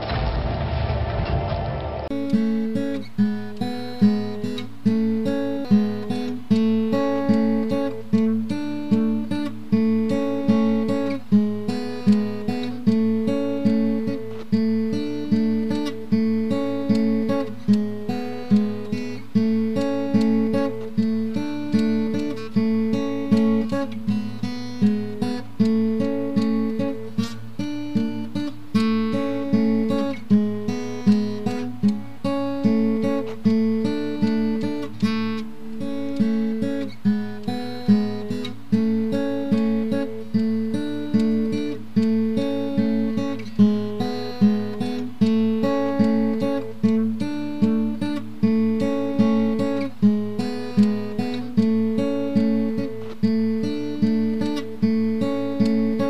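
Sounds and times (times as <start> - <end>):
acoustic guitar plucking: 0.0 - 56.0.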